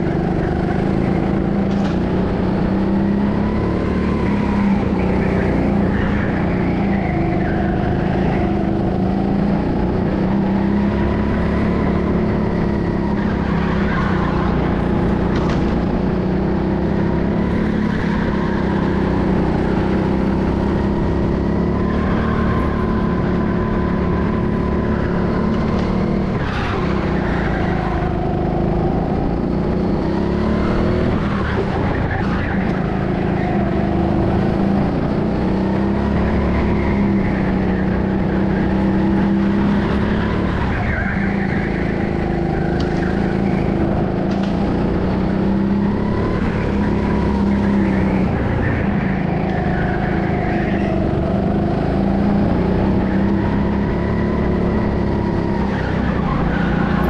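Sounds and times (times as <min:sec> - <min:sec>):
go-kart motor revving: 0:00.0 - 0:57.0.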